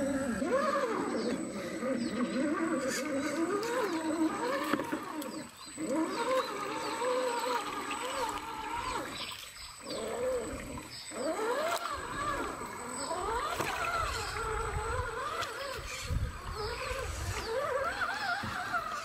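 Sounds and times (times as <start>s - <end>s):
electric motor whine: 0.0s - 19.0s
water sloshing around wheels: 0.0s - 19.0s.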